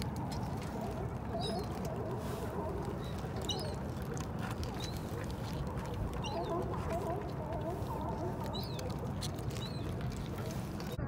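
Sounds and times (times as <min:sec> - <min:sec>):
low background rumble: 0:00.0 - 0:11.0
lower wavering bird calls: 0:00.0 - 0:11.0.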